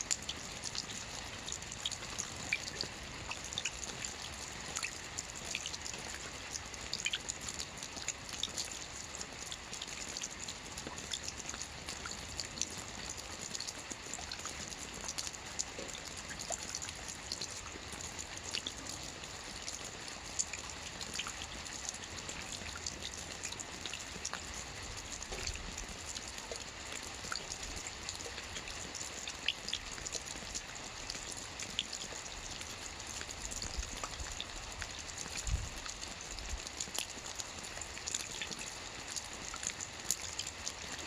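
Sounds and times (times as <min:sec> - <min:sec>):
light rain falling: 0:00.0 - 0:41.0.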